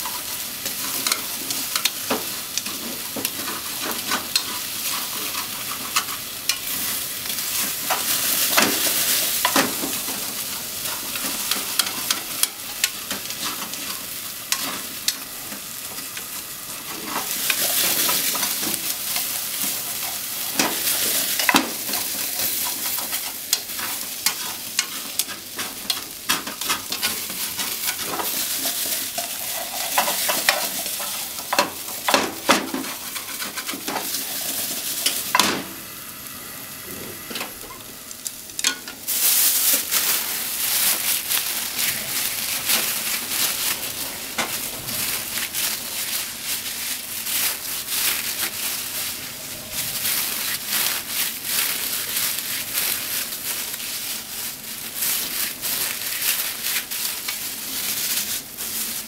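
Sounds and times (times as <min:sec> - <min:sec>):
chopsticks clicking and scraping a pan: 0:00.0 - 0:35.4, 0:37.3 - 0:49.1, 0:50.0 - 0:59.0
potatoes and onions sizzling in a pan: 0:00.0 - 0:59.0.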